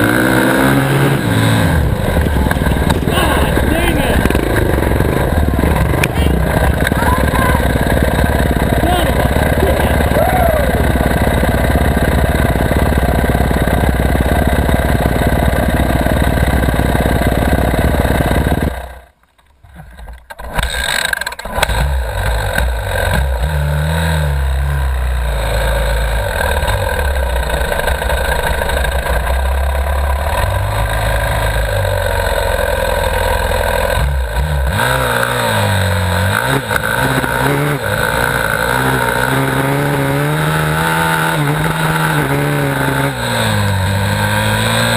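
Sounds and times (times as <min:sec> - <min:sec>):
dirt bike engine running hard: 0:00.0 - 0:19.1, 0:20.7 - 0:44.9.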